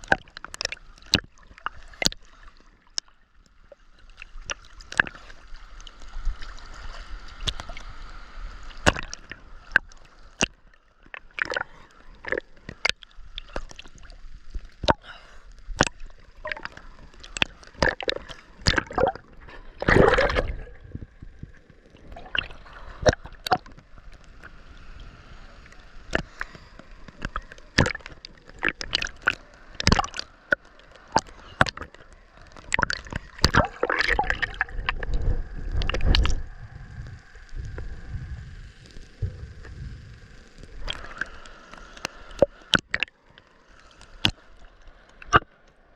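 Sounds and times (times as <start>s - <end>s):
water splashing and sloshing: 0.0s - 45.9s.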